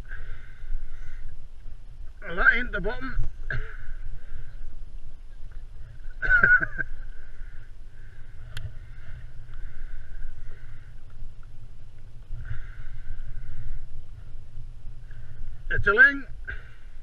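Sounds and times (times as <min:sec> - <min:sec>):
low rumble of water and wind: 0:00.0 - 0:17.0.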